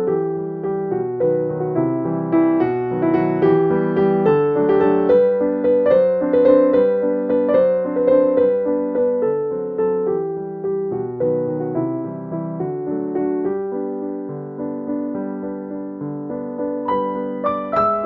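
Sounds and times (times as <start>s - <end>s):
gentle piano melody: 0.0s - 18.0s.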